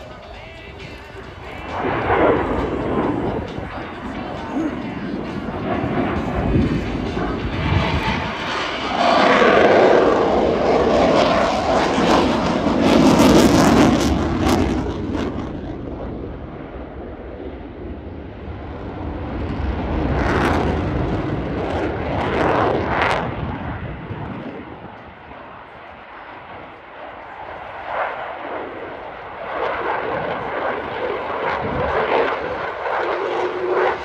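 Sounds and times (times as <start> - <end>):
jet passing in afterburner: 0.0 - 34.0.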